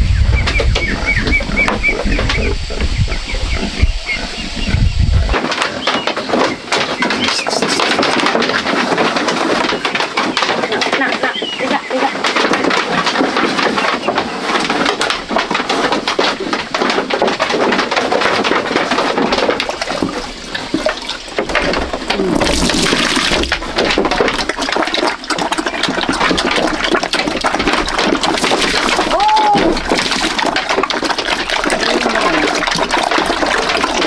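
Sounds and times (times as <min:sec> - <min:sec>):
water pouring and splashing: 0:00.0 - 0:34.0.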